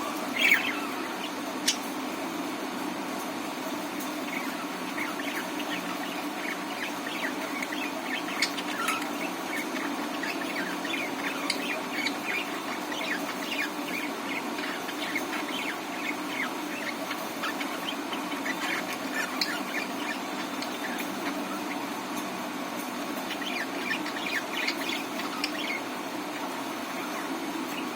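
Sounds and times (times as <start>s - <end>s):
budgerigars chirping: 0.0s - 2.0s, 4.1s - 27.9s.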